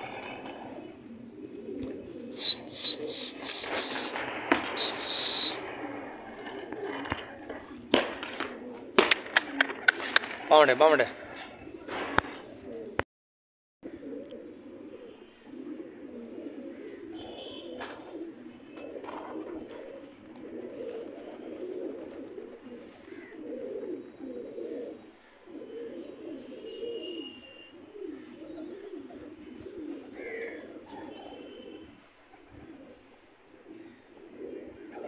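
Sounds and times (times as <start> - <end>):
pigeons cooing: 0.0 - 13.0, 13.8 - 35.0.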